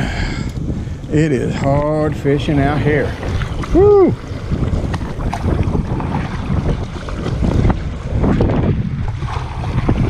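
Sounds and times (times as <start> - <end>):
gusty wind buffeting microphone: 0.0 - 10.0
waves slapping kayak hull: 0.0 - 10.0.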